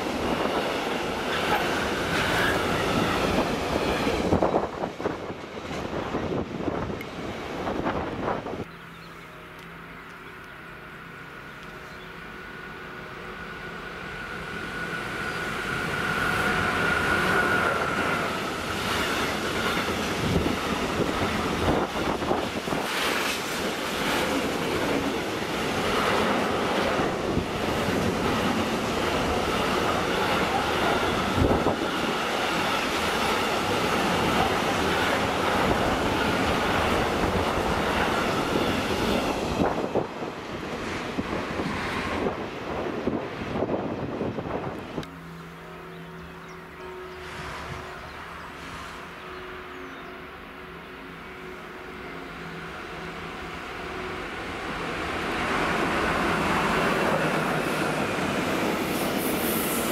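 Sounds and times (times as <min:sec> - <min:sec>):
high steady locomotive tone: 0:00.0 - 0:59.9.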